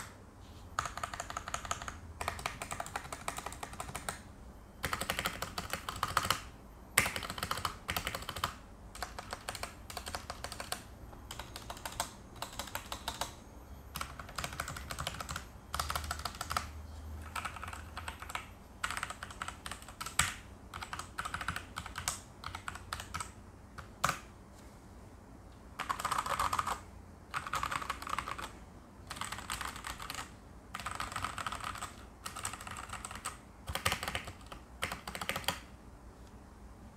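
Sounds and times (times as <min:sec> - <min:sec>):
mechanical keyboard typing: 0:00.8 - 0:24.3, 0:25.8 - 0:35.7.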